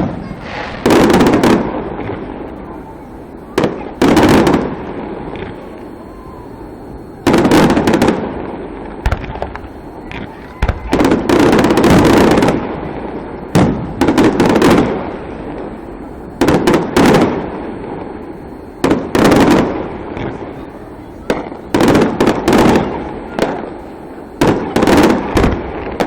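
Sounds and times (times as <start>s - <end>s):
fireworks bangs: 0.0s - 26.0s
fireworks rumble and crackle: 0.0s - 26.0s.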